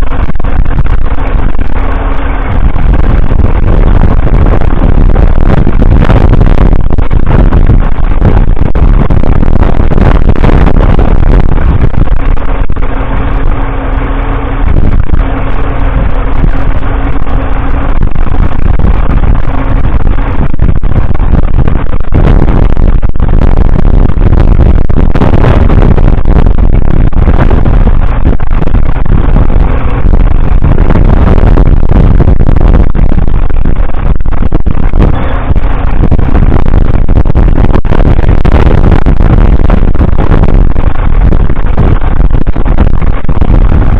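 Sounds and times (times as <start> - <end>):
steady hum: 0.0 - 43.9
tractor engine running: 0.0 - 43.9.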